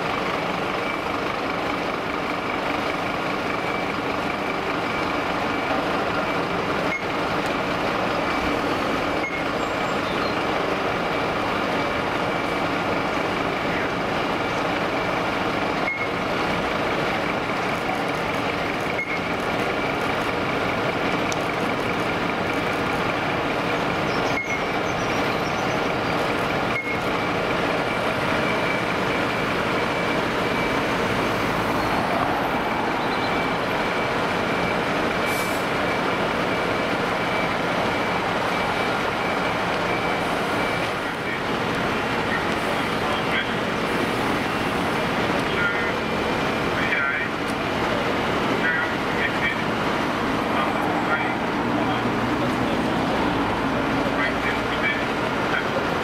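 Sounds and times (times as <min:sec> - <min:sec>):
diesel fire engines running: 0:00.0 - 0:56.0.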